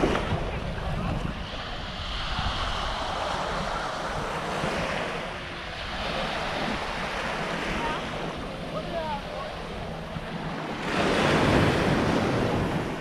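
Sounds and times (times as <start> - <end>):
waves washing onto beach: 0.0 - 13.0
wind on microphone: 0.0 - 13.0.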